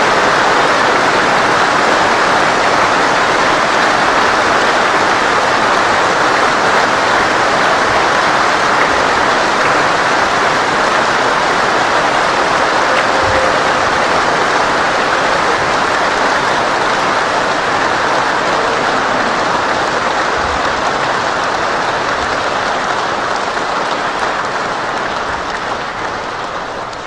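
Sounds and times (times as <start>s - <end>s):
crowd applauding: 0.0s - 27.0s.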